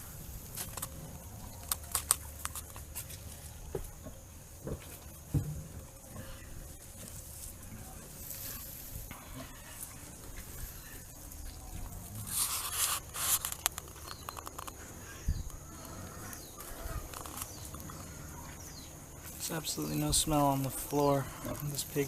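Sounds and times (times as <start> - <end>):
rustling in wood-chip bedding: 0.0 - 22.0.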